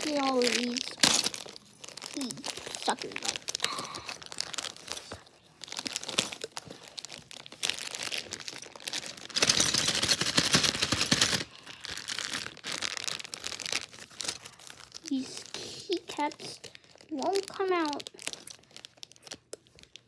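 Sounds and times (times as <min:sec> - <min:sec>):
plastic bag crinkling: 0:00.0 - 0:20.0.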